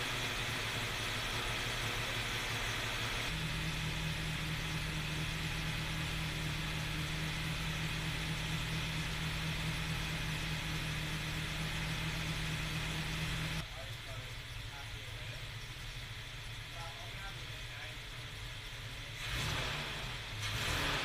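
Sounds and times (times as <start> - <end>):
petrol engine running steadily: 0.0 - 19.2.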